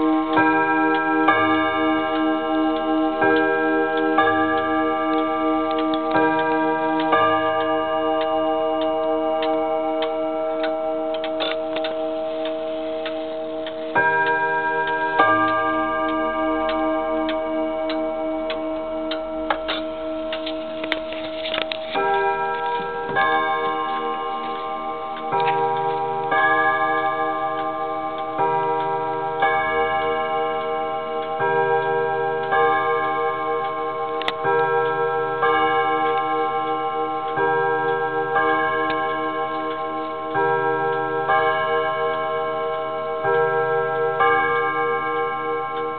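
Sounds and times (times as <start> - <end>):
clock clicks: 0.0 - 45.9
wall clock chime rods ringing: 0.0 - 45.9.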